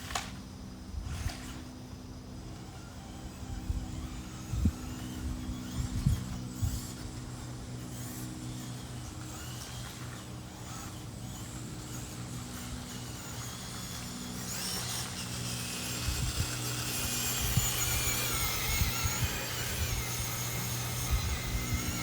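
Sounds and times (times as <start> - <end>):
toy car motor whining: 0.0 - 22.0.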